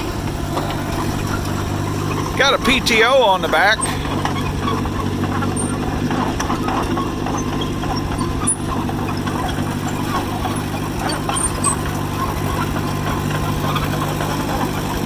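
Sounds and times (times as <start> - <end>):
crawler engine running: 0.0 - 15.0
machine rattling: 0.0 - 15.0.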